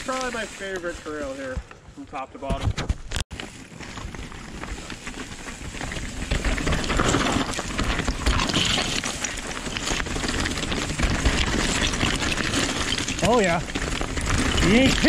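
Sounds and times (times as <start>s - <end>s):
bike tyres crunching over stone: 0.0s - 1.7s, 2.5s - 15.0s
bike rattling and knocking: 2.5s - 15.0s.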